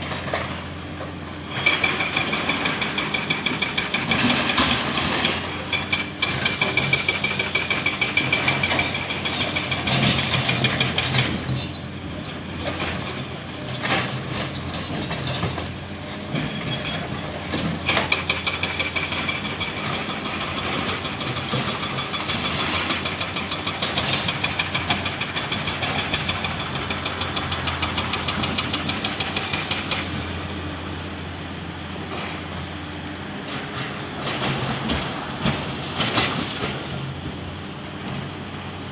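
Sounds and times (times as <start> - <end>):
excavator diesel engine: 0.0 - 38.9.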